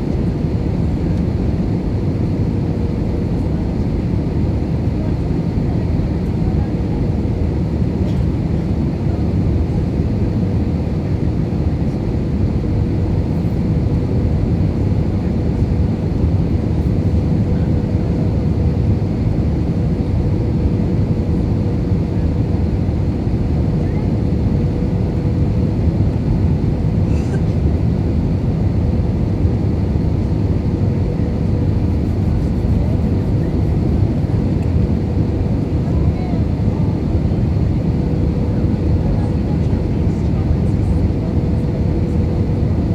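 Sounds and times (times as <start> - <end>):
airplane cabin rumble: 0.0 - 42.9
steady engine whine: 0.0 - 42.9.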